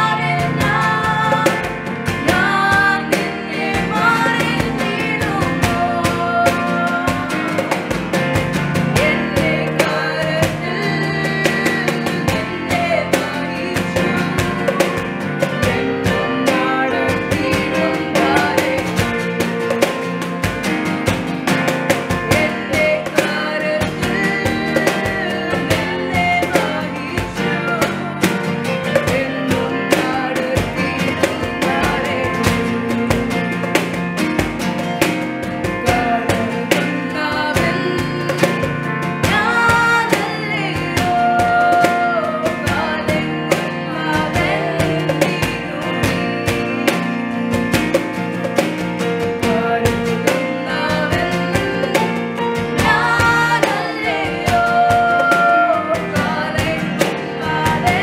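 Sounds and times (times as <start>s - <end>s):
women singing together: 0.0s - 20.0s, 22.0s - 33.6s, 35.6s - 47.7s, 49.4s - 58.0s
keyboard: 0.0s - 58.0s
strummed acoustic guitar: 0.0s - 58.0s.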